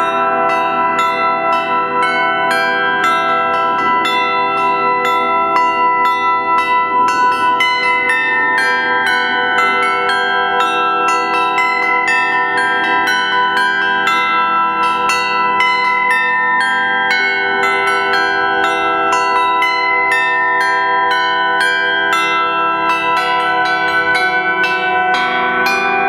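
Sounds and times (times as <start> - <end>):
bells ringing: 0.0 - 26.0.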